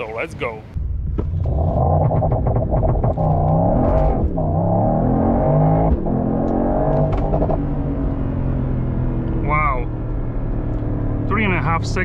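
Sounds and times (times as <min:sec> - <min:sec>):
car engine accelerating hard: 0:01.2 - 0:12.0.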